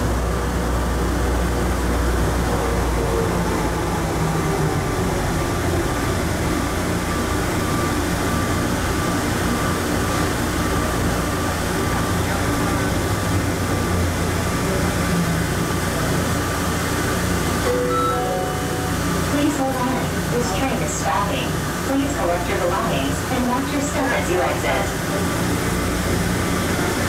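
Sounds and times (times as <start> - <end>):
train rolling and motor noise: 0.0 - 27.0.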